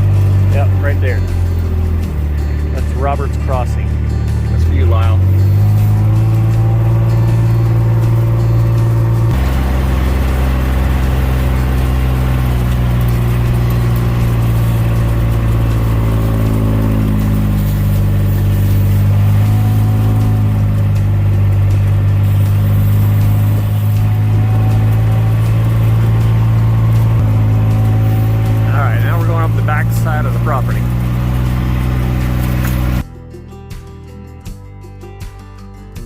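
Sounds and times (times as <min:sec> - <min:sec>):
diesel engine running: 0:00.0 - 0:33.3.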